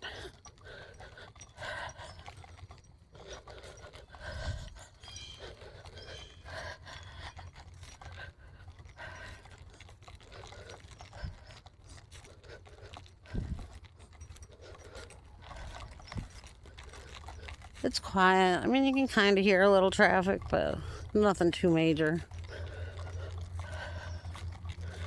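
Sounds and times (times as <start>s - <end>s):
person breathing while walking: 0.0s - 25.0s.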